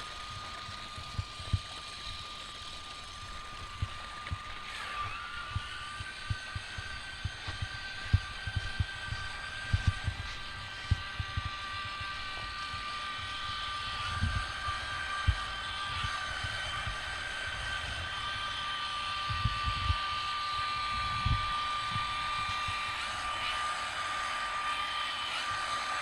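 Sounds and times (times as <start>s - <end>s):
electric motors high whine: 0.0s - 26.0s.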